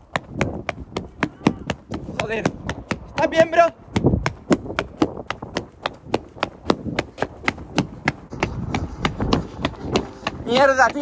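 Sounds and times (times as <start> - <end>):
running footsteps on concrete: 0.0 - 11.0.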